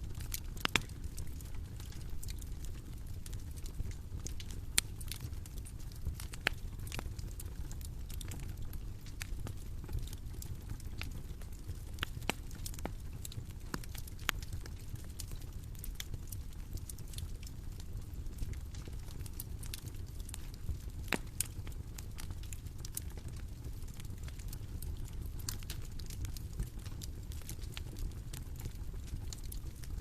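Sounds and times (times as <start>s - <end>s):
bonfire crackling and popping: 0.0s - 30.0s
low rumble of burning fire: 0.0s - 30.0s.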